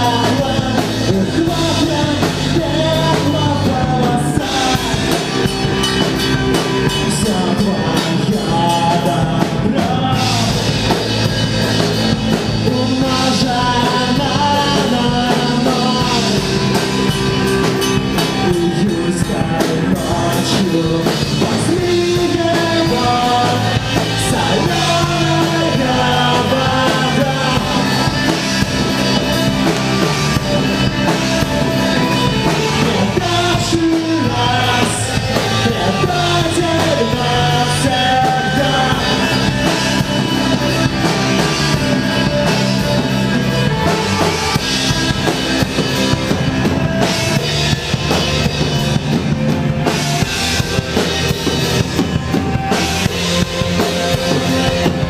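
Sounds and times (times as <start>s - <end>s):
drum kit beat: 0.0s - 55.0s
punk rock band playing: 0.0s - 55.0s.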